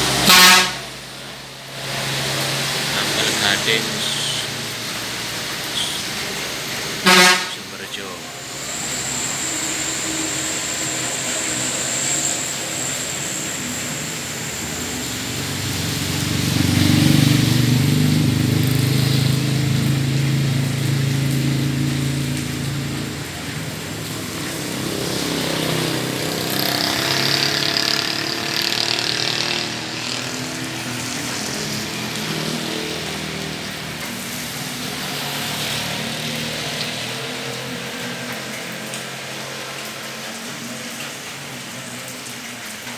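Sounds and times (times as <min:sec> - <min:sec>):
vehicle engine passing: 0:00.0 - 0:41.3
rain: 0:00.0 - 0:42.9
tyre hiss on wet road: 0:00.0 - 0:42.9.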